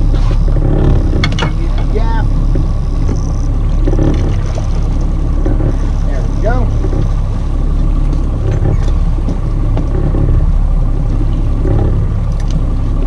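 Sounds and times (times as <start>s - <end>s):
outboard motor rumbling: 0.0s - 13.0s.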